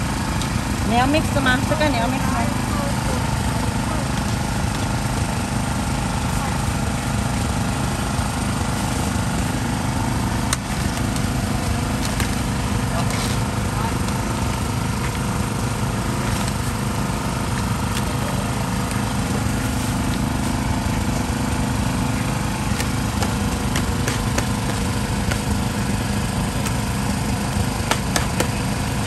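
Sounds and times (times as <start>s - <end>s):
small engine droning: 0.0s - 29.0s.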